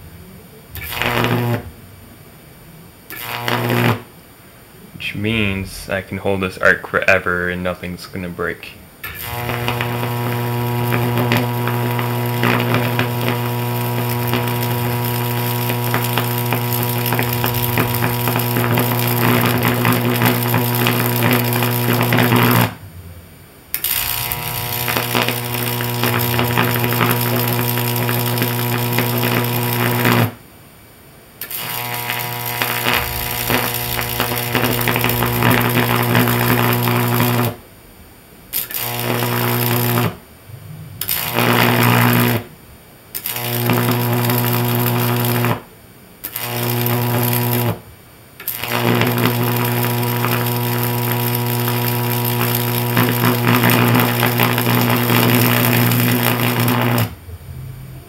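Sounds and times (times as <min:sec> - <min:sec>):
electric arc buzzing and crackling: 0:00.0 - 0:02.0, 0:03.0 - 0:30.5, 0:31.4 - 0:57.9.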